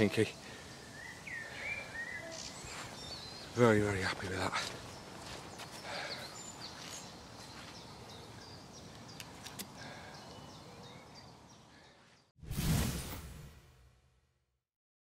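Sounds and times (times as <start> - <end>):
faint bird chirps: 0.0 - 12.3.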